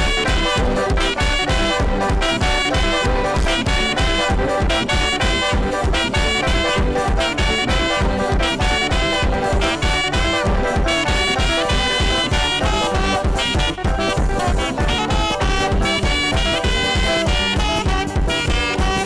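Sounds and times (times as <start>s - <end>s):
fast drum beat: 0.0s - 19.0s
saxophone playing: 0.0s - 19.0s
upbeat praise music: 0.0s - 19.0s.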